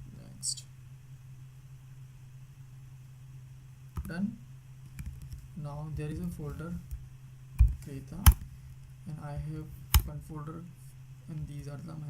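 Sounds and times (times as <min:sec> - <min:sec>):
faint background hiss: 0:00.0 - 0:12.0
low hum: 0:00.0 - 0:12.0.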